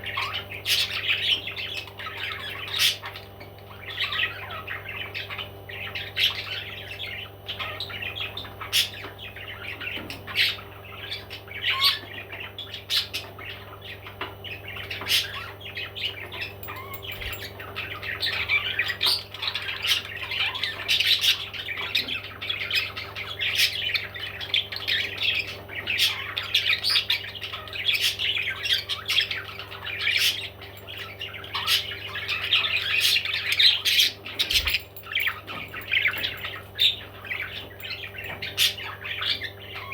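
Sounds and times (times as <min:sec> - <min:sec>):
parrots squawking and chirping: 0:00.0 - 0:39.9.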